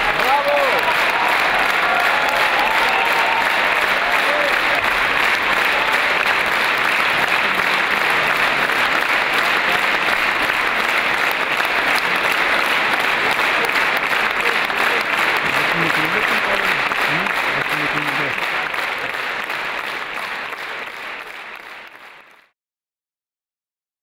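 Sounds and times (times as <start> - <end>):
large audience applauding: 0.0 - 22.5.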